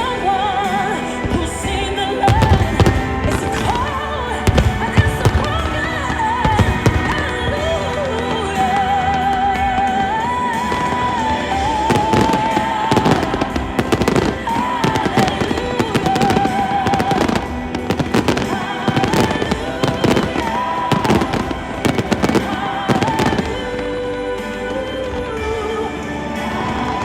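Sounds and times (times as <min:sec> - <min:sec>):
fireworks bursting and crackling: 0:00.0 - 0:27.0
loud music with vocal melody: 0:00.0 - 0:27.0.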